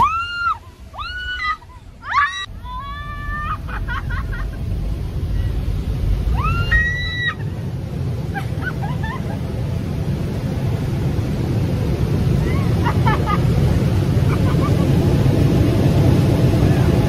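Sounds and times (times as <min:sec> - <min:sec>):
small plane engine and wind: 0:00.0 - 0:17.0.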